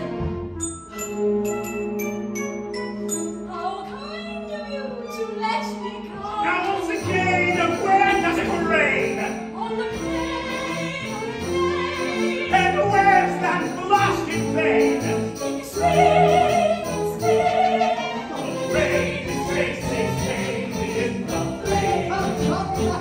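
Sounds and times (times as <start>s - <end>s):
pit orchestra playing: 0.0s - 23.0s
singers performing show tune: 3.5s - 23.0s.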